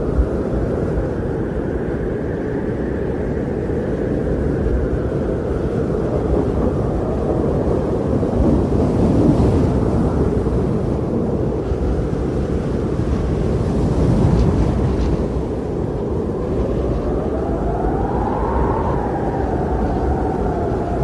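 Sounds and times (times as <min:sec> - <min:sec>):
strong blizzard wind: 0:00.0 - 0:21.0.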